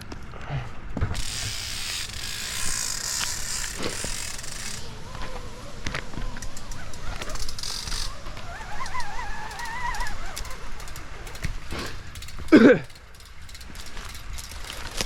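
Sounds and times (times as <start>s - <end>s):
rope rasping through descent gear: 0.6s - 15.0s
sharp metal clicks: 1.2s - 5.0s, 6.0s - 15.0s.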